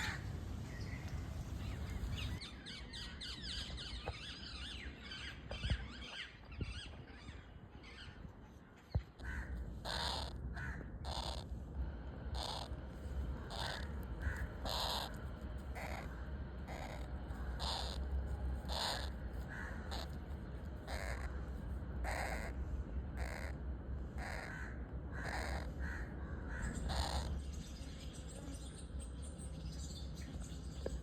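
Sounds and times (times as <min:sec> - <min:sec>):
harsh bird calls: 0:00.0 - 0:08.2, 0:08.8 - 0:11.5, 0:12.2 - 0:31.0
steady low rumble: 0:00.0 - 0:31.0.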